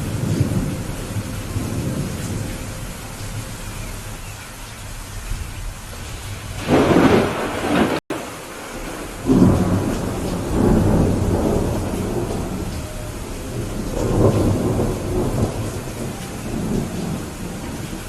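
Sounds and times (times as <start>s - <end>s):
rolling thunder: 0.0s - 4.2s, 4.9s - 18.0s
heavy rain: 0.0s - 18.0s.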